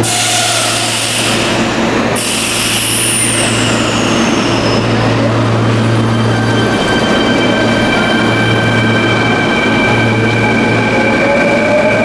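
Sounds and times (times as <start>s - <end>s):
electric train whine: 0.0s - 12.0s
train running noise: 0.0s - 12.0s.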